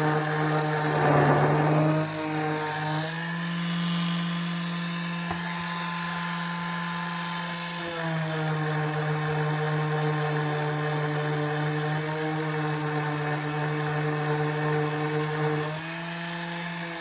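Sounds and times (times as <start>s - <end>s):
electric sander sanding wood: 0.0s - 17.0s.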